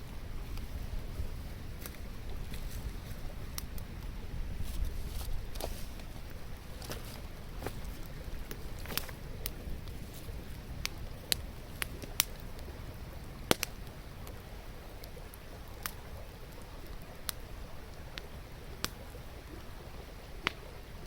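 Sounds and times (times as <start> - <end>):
campfire crackling and popping: 0.0 - 20.8.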